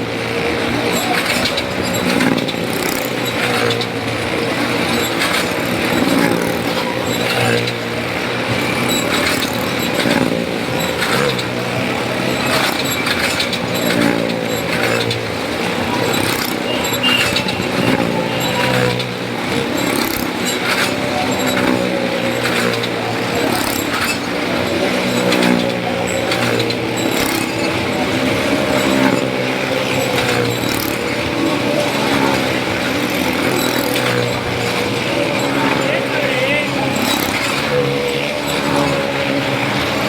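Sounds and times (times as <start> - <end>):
motorcycle engines running hard: 0.0 - 40.0.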